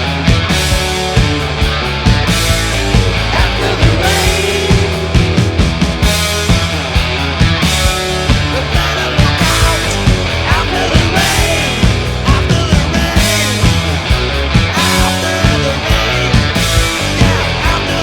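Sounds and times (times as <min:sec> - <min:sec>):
hard rock band playing: 0:00.0 - 0:18.0.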